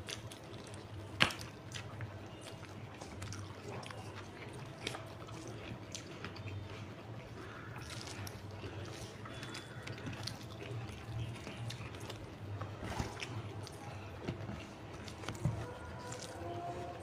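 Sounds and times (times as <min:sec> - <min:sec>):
fingers squishing rice: 0:00.0 - 0:17.0
mouths chewing: 0:00.0 - 0:17.0
steady low hum: 0:00.0 - 0:17.0.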